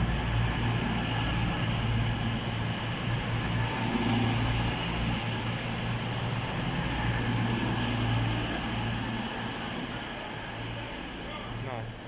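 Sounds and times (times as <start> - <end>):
diesel train engines humming: 0.0 - 12.0.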